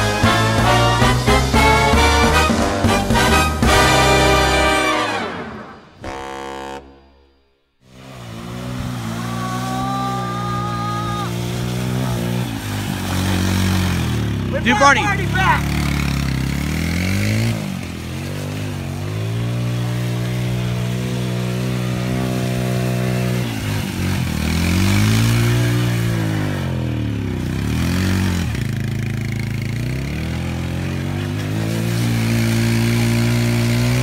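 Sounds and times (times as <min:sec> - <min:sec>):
atv engine revving: 0:00.0 - 0:06.4, 0:07.9 - 0:34.0.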